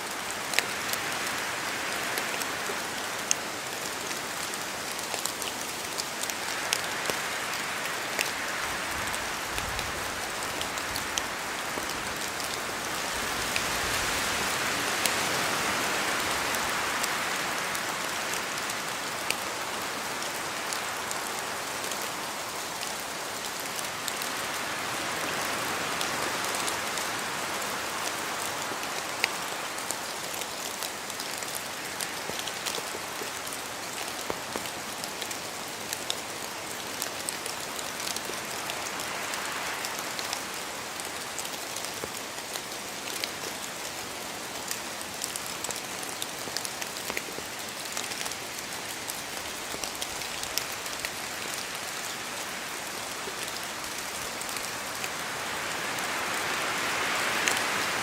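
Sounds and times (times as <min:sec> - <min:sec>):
rain falling in a forest: 0:00.0 - 0:58.0
raindrops pattering on leaves: 0:00.0 - 0:58.0.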